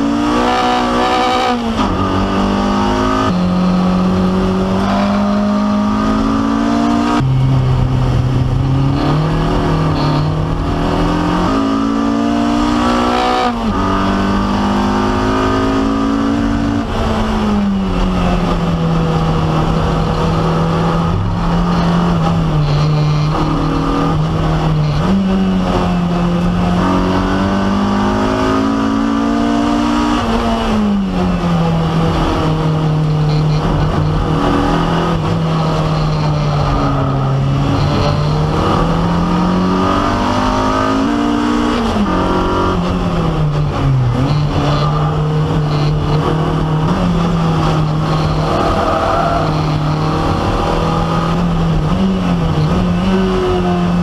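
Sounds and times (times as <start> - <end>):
car engine at full throttle: 0.0 - 54.0
road and wind noise: 0.0 - 54.0.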